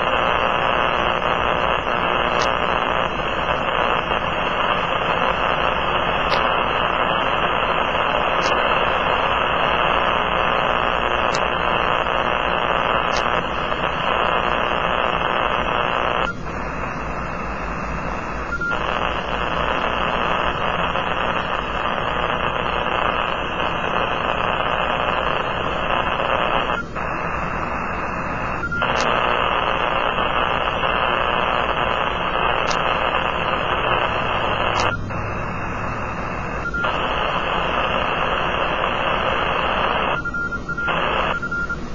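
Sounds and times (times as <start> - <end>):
radio static hiss: 0.0 - 41.9.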